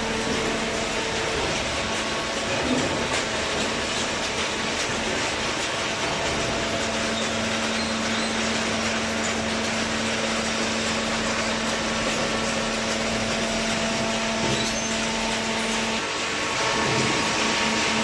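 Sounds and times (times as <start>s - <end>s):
hydraulic pump humming: 0.0s - 18.0s.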